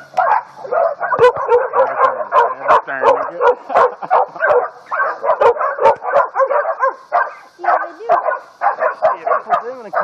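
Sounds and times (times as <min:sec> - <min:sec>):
puppies barking and yipping: 0:00.0 - 0:10.0.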